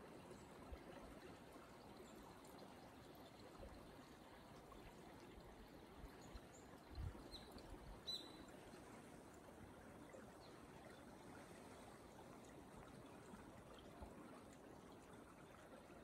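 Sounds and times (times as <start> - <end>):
stream trickling over rocks: 0.0 - 16.0.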